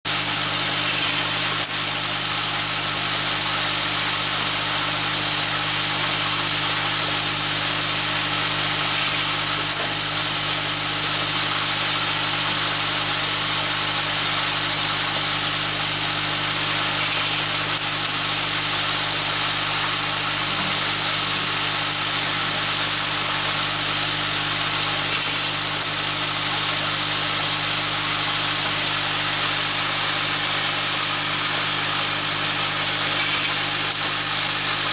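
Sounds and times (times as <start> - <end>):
grinder running: 0.0 - 34.9.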